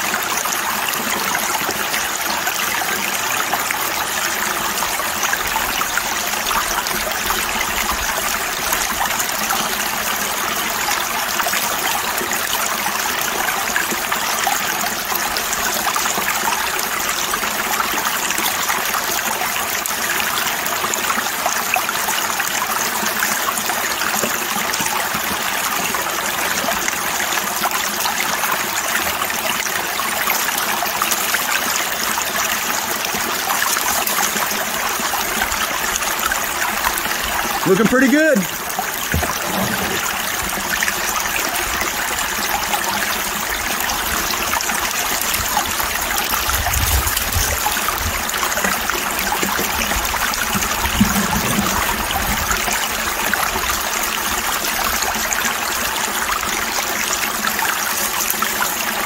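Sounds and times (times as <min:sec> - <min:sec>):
water rushing through metal sluice: 0:00.0 - 0:59.0.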